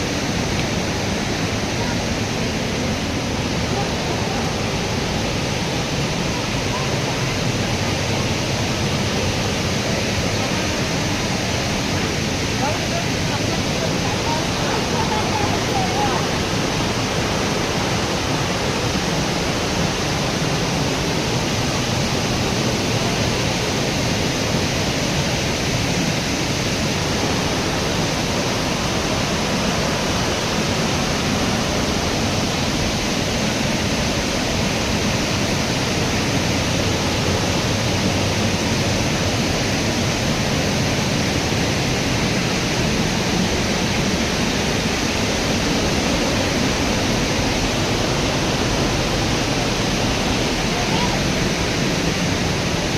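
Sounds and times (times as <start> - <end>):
waterfall crashing onto rock: 0.0 - 52.9.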